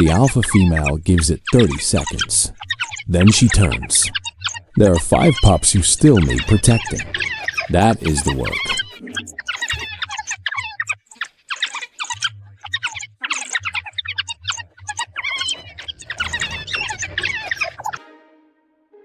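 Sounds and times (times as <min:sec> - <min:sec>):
wild dogs chirping and squeaking: 0:00.0 - 0:18.0.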